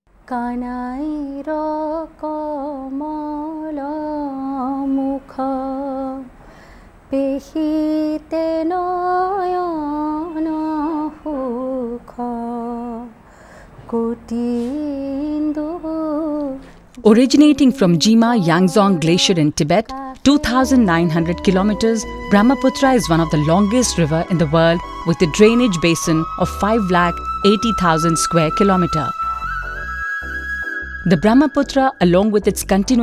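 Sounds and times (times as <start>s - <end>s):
woman singing: 0.3s - 6.3s, 7.1s - 13.2s, 13.8s - 29.2s.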